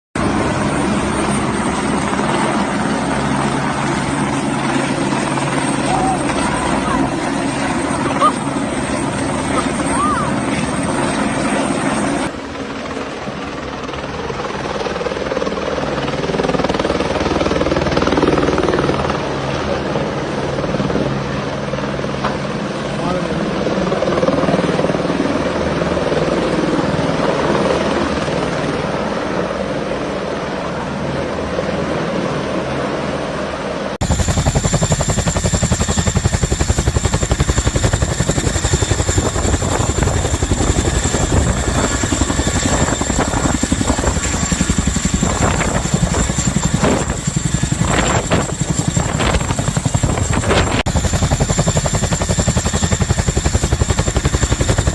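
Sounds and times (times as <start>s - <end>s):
helicopter rotor and engine: 0.2s - 54.9s.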